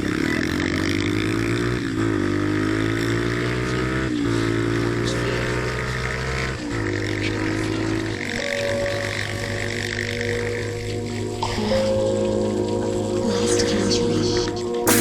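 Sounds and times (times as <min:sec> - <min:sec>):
motorcycle engine accelerating: 0:00.0 - 0:13.6.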